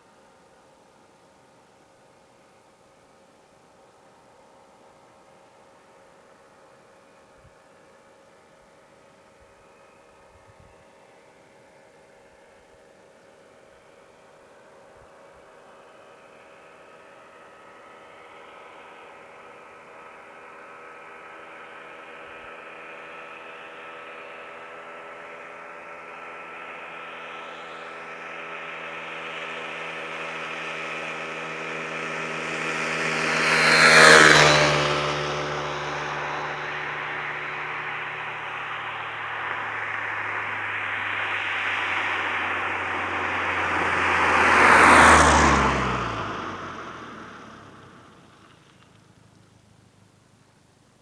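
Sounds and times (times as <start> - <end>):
car driving past: 5.2 - 49.5.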